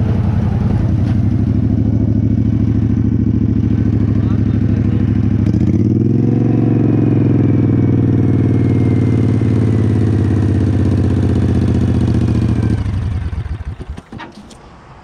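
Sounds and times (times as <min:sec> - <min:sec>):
lawnmower engine running: 0:00.0 - 0:14.7.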